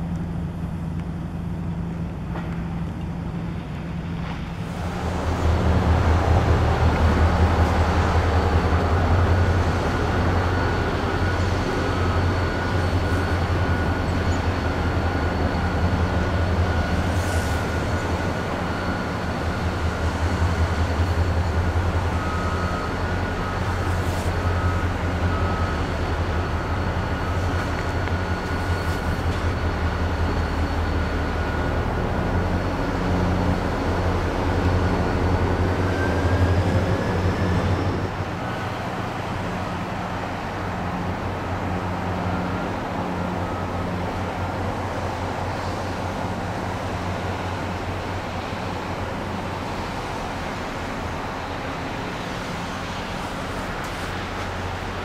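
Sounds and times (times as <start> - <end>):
diesel locomotive engine rumble: 0.0 - 55.0
thin high whine: 3.3 - 55.0.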